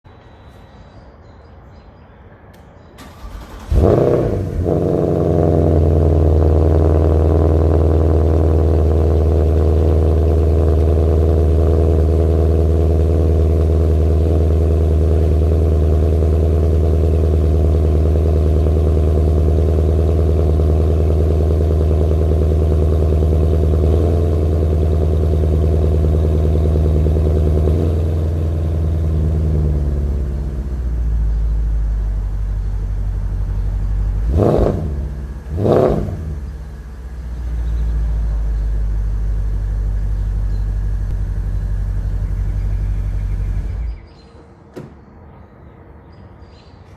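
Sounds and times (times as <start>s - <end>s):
car engine idling: 3.0s - 44.0s
engine revving blips: 3.0s - 44.1s.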